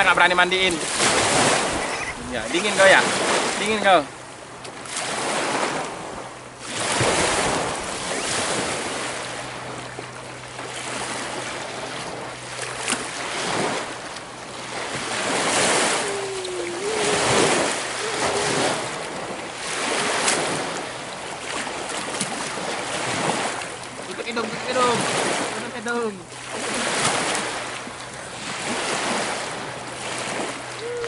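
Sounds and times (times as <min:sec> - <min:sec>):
waves washing onto stony shore: 0:00.0 - 0:31.0.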